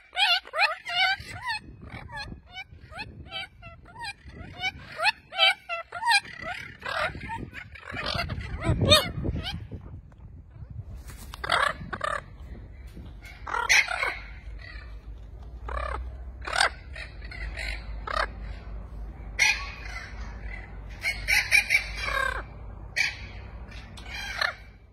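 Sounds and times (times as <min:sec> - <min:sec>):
macaws squawking: 0:00.0 - 0:09.8, 0:11.1 - 0:18.8, 0:19.4 - 0:24.9.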